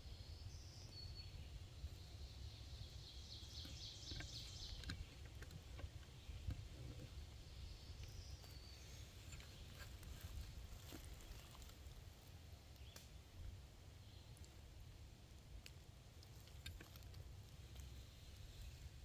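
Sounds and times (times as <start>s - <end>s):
faint songbirds singing: 0.0s - 19.0s
low rumble of wind or traffic: 0.0s - 19.0s.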